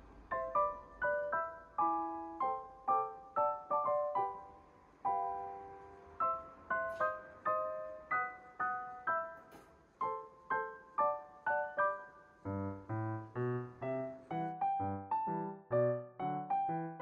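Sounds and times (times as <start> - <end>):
gentle piano tune: 0.0 - 17.0.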